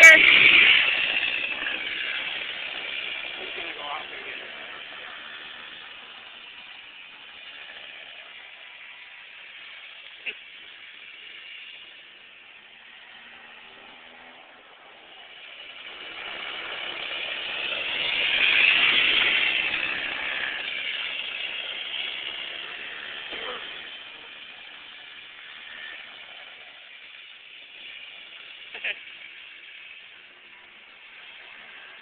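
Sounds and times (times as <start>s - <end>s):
small kart engine passing by: 0.0s - 32.0s.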